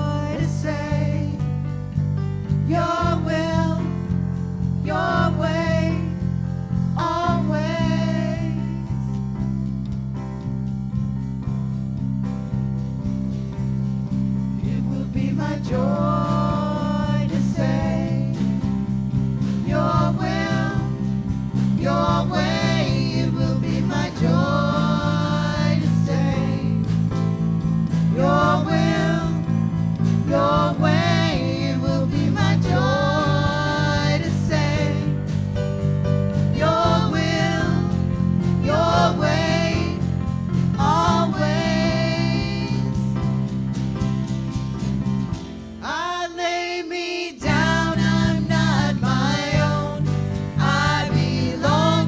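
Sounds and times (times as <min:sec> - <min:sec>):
worship band music: 0:00.0 - 0:52.0.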